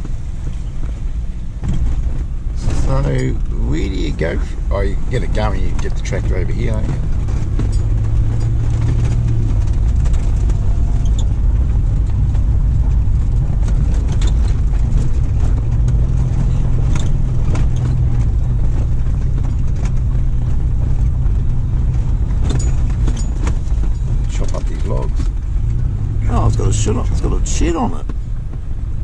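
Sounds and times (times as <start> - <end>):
car engine and tyres droning: 0.0 - 29.0
knocks and rattles: 5.0 - 28.7.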